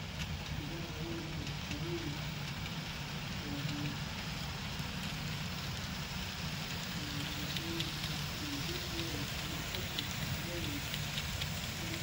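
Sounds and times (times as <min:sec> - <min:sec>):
model train wheels rattling on rails: 0:00.0 - 0:12.0.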